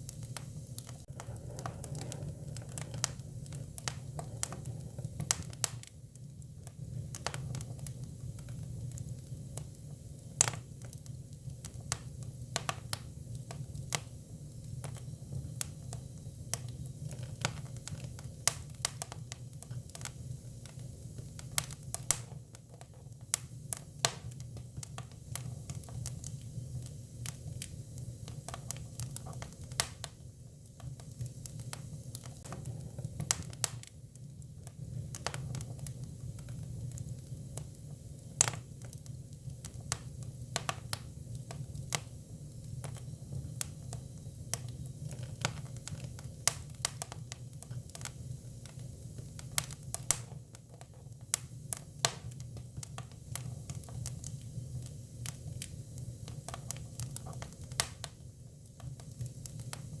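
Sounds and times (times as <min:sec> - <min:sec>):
firewood crackling and popping: 0:00.0 - 1:00.0
low rumble of fire: 0:00.0 - 1:00.0.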